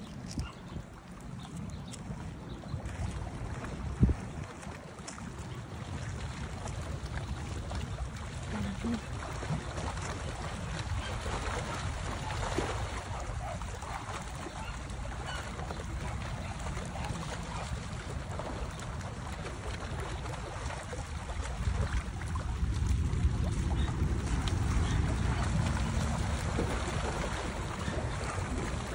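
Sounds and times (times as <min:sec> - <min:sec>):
wind on microphone: 0:00.0 - 0:28.9
waves splashing against rocks: 0:04.0 - 0:28.9.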